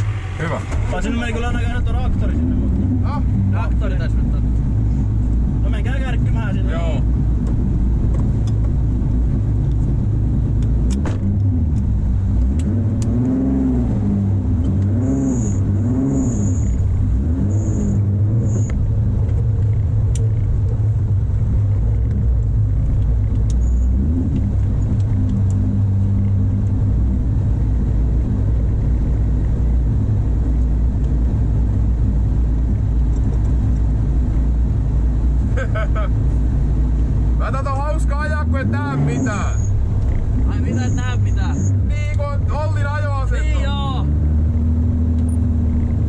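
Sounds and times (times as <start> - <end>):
car engine idling: 0.0 - 13.1, 14.1 - 46.0.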